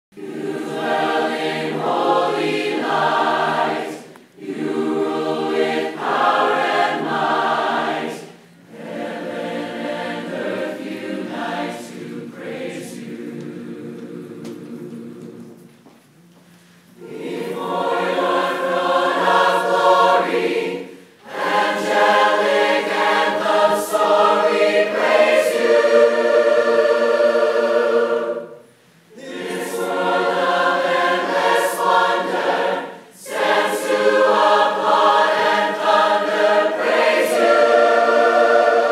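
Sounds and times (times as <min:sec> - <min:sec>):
choir singing sustained chords: 0:00.1 - 0:15.8, 0:16.9 - 0:38.9.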